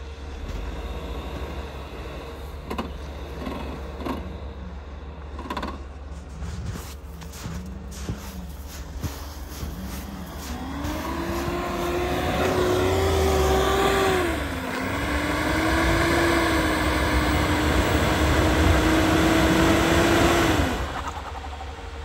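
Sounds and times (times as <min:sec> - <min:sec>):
pickup engine accelerating: 0:00.0 - 0:22.0.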